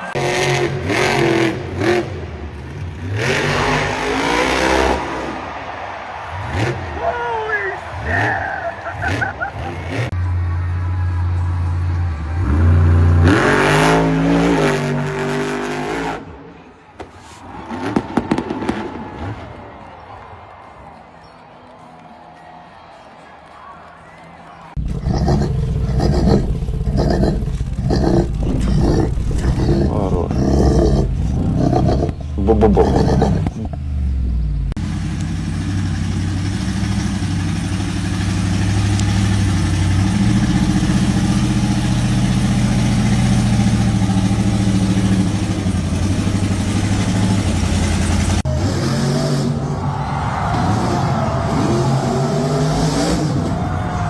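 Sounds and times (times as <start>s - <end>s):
monster truck engine revving: 0.0s - 10.5s, 11.5s - 16.6s, 24.7s - 54.0s.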